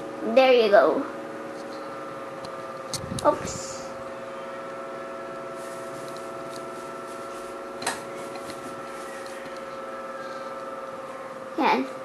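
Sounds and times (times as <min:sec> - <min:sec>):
steady hum with fixed tones: 0:00.0 - 0:12.0.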